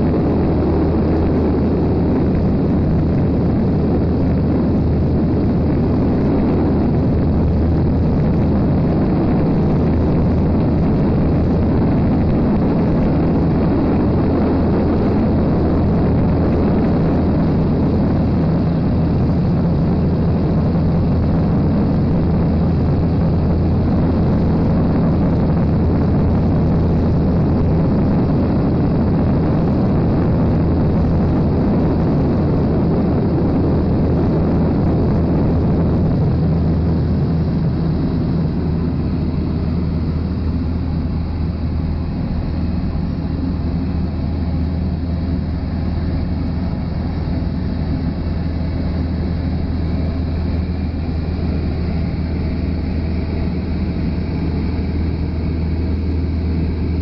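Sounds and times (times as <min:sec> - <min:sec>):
aircraft engine and propeller drone: 0:00.0 - 0:57.0
airflow noise: 0:00.0 - 0:57.0.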